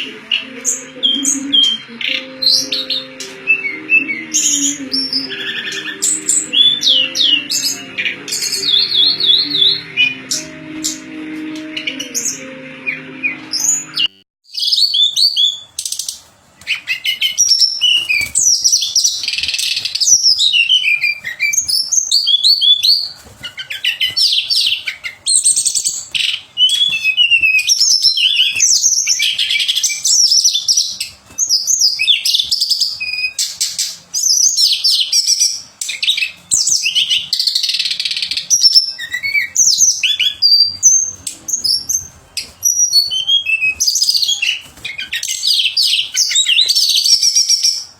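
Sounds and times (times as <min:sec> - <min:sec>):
songbird twittering: 0:00.0 - 0:11.0, 0:11.8 - 0:47.9.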